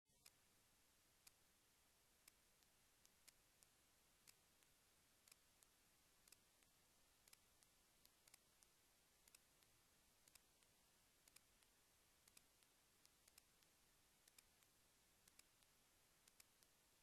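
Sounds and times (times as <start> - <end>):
faint sharp clicks: 0.2 - 0.5, 2.2 - 17.0.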